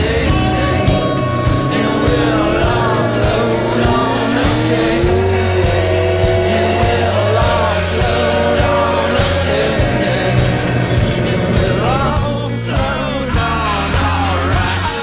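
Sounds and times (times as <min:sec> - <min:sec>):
car engine accelerating: 0:00.0 - 0:13.1
rock music: 0:00.0 - 0:15.0.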